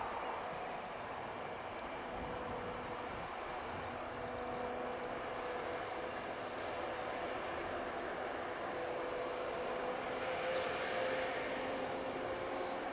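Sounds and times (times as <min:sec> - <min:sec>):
engine noise: 0:00.0 - 0:12.9
high insect chirp: 0:00.1 - 0:12.9.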